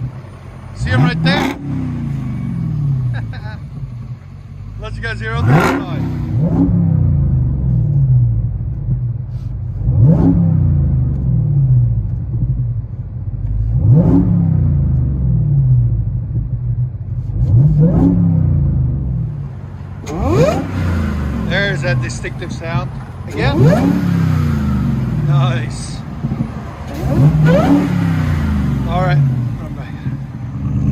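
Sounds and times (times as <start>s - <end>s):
car engine idling rumble: 0.0s - 30.9s
car engine revving: 0.0s - 30.9s.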